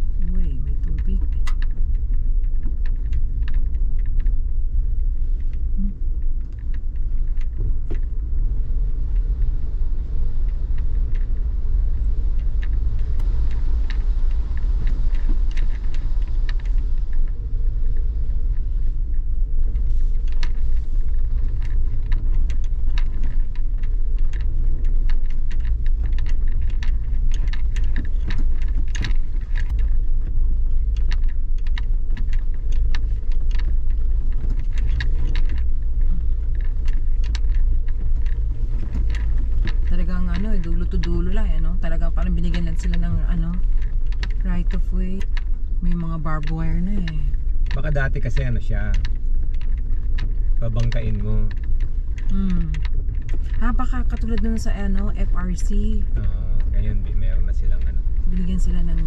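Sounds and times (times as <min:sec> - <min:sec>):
engine and road rumble: 0:00.0 - 0:59.0
small rattles and clicks: 0:00.0 - 0:59.0.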